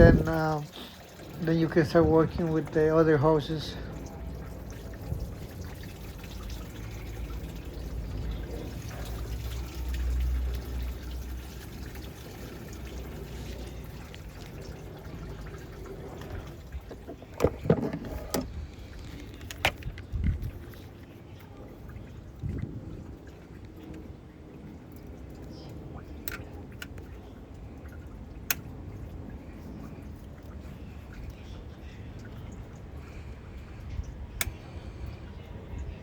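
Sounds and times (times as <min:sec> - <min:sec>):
coolant pouring into container: 0:00.0 - 0:36.0.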